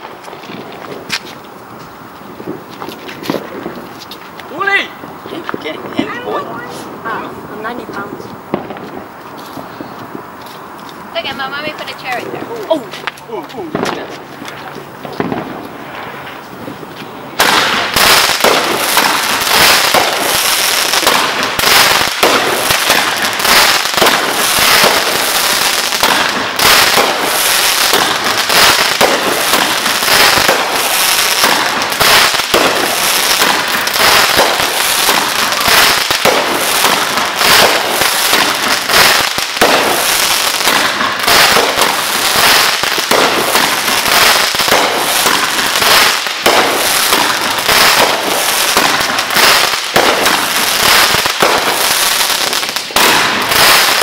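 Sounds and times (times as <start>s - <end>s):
firework bangs: 0.0s - 54.0s
fireworks crackling and popping: 0.0s - 54.0s.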